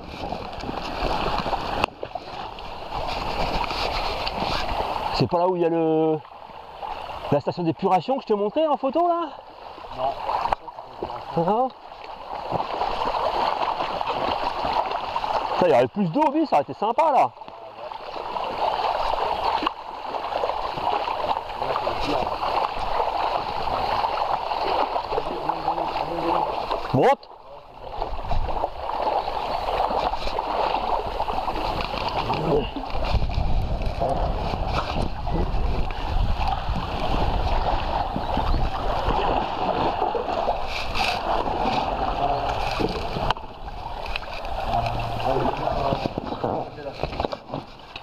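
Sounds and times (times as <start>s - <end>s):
river water rippling over stones: 0.0s - 48.0s
wading splashes: 0.0s - 48.0s.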